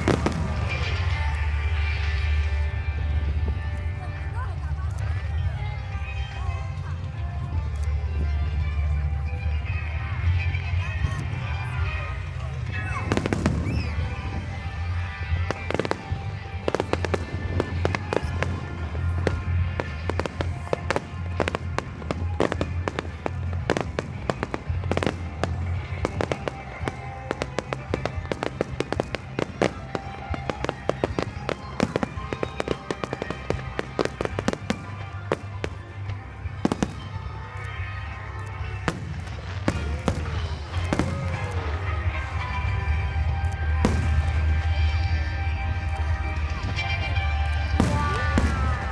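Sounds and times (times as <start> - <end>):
fireworks bangs and crackles: 0.0 - 48.9
music playing: 0.0 - 48.9.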